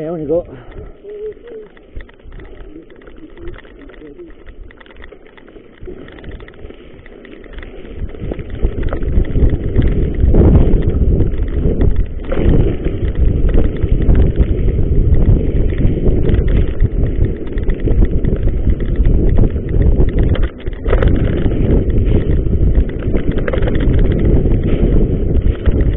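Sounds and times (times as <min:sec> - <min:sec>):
bike rattling over gravel: 0:00.0 - 0:25.9
wind buffeting microphone: 0:00.0 - 0:25.9.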